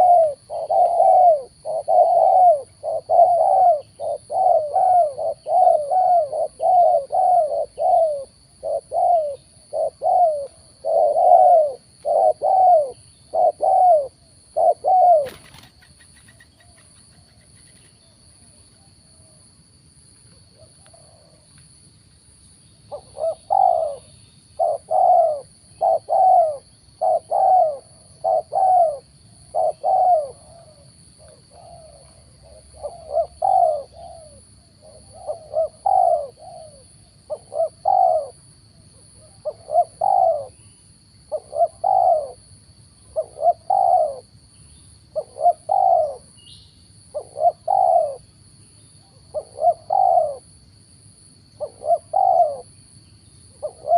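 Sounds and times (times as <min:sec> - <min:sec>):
doves cooing: 0:00.0 - 0:19.5, 0:20.5 - 0:21.5, 0:22.9 - 0:38.4, 0:39.2 - 0:40.6, 0:41.3 - 0:44.4, 0:45.1 - 0:46.3, 0:47.1 - 0:48.3, 0:49.0 - 0:50.5, 0:51.6 - 0:52.7, 0:53.6 - 0:53.9.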